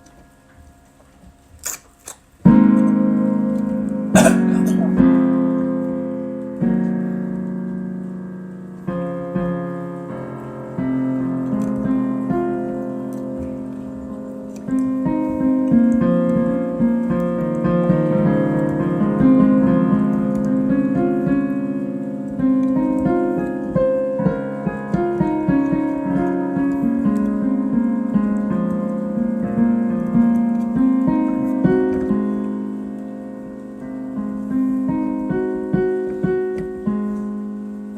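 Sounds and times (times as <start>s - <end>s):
improvised piano piece: 0.0s - 37.9s.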